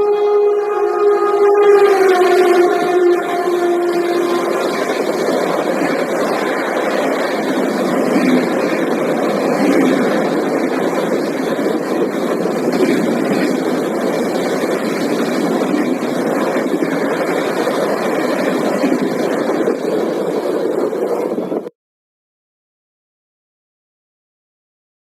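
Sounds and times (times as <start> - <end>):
train passing at high speed: 0.0 - 21.7.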